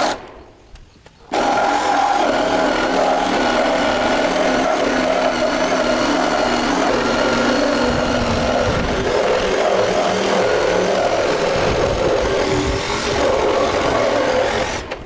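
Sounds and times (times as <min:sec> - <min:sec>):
power tool motor running: 0:01.3 - 0:15.0.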